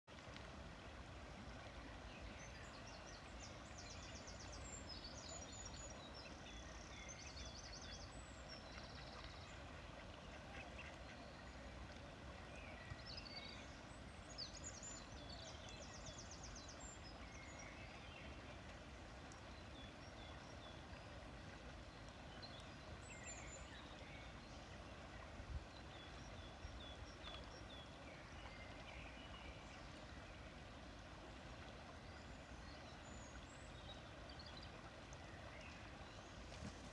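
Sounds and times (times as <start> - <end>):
river flowing over stones: 0.1 - 36.9.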